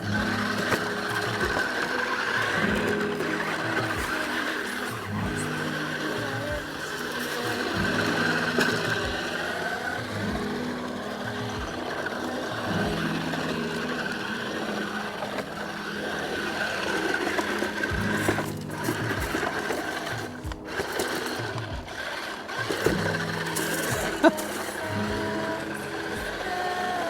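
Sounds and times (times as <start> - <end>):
toy truck motor whining: 0.0 - 12.8, 13.4 - 27.0
background music: 0.0 - 27.0.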